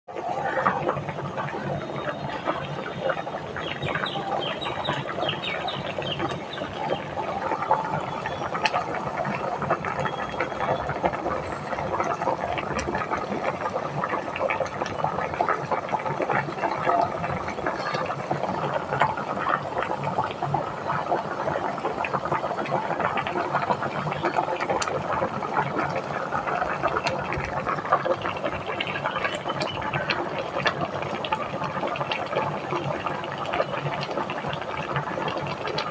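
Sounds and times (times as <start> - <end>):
watery bubbling and splashing: 0.1 - 35.9.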